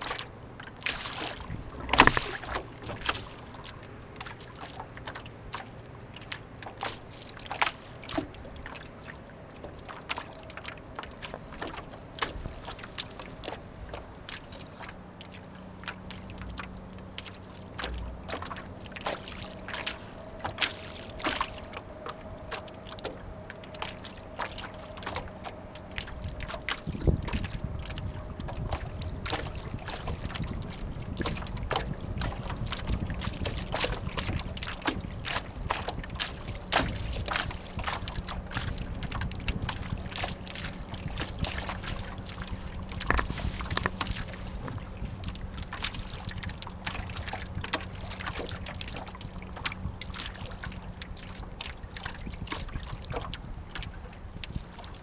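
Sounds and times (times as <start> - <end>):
waves splashing against hull: 0.0 - 55.0
wind rumble on microphone: 0.0 - 55.0.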